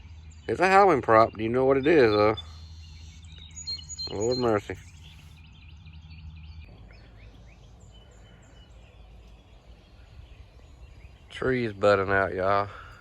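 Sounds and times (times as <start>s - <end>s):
small birds chirping: 0.0s - 13.0s
faint low rumble: 2.4s - 13.0s.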